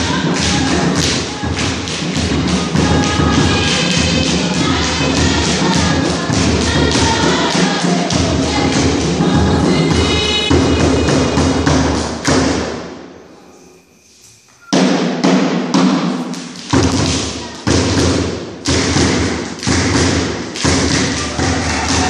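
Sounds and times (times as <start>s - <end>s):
heavy drum beats in a hall: 0.0s - 13.1s, 14.7s - 22.0s.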